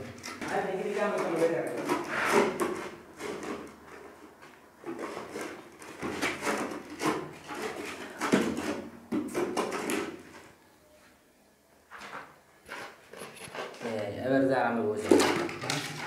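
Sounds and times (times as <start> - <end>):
plastic pipe scraping and knocking: 0.0 - 10.5, 12.0 - 14.0, 15.0 - 16.0.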